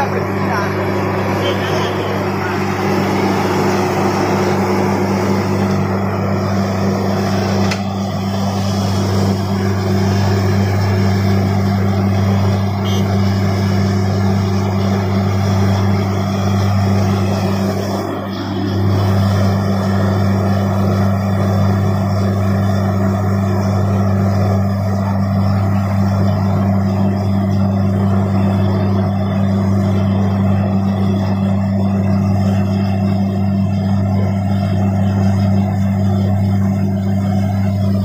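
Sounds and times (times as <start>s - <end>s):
drilling rig engine drone: 0.0s - 38.0s.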